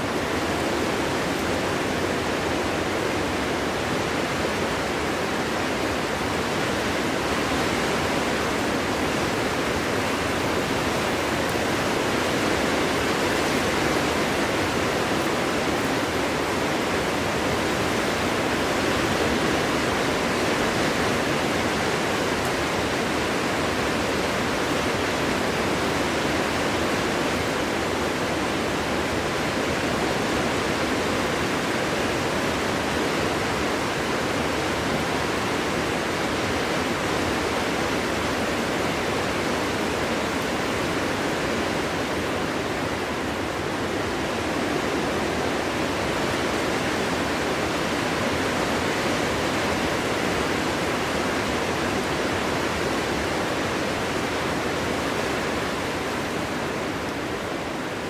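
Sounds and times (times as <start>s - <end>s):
wind roaring through forest: 0.0s - 58.0s.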